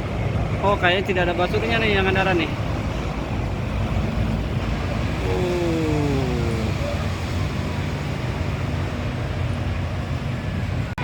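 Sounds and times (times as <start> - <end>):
buses passing with engine hum: 0.0 - 11.0.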